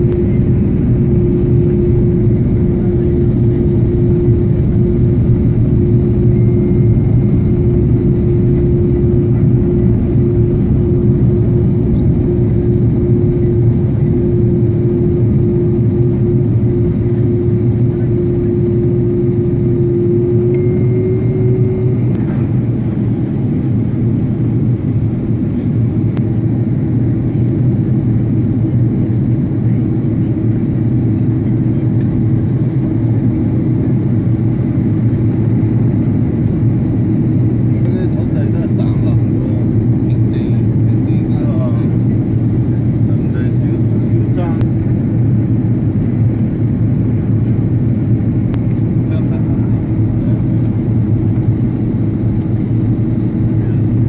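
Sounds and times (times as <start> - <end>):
airliner engines and airflow rushing: 0.0 - 54.0
droning hum: 0.0 - 54.0.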